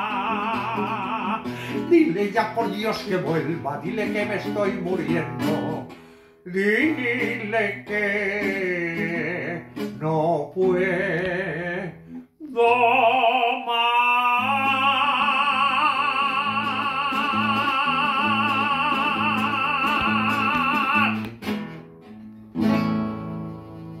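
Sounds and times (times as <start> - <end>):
man singing with vibrato: 0.0 - 21.4
strummed acoustic guitar: 0.0 - 24.0.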